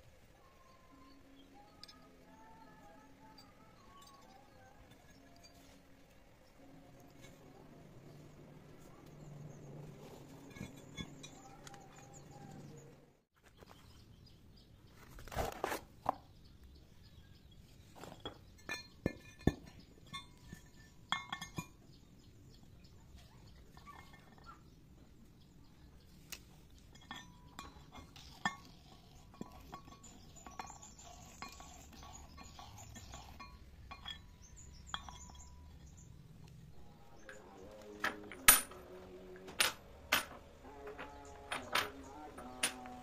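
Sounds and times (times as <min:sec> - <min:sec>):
metallic clinks and knocks: 0:01.0 - 0:12.9, 0:18.0 - 0:22.3, 0:22.9 - 0:25.2, 0:26.6 - 0:43.0.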